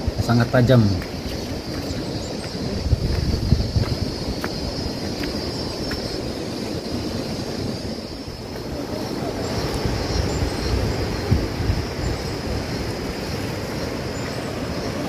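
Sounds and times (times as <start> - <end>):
steaming fumarole rushing: 0.0 - 15.0
wind gusting on microphone: 0.0 - 15.0.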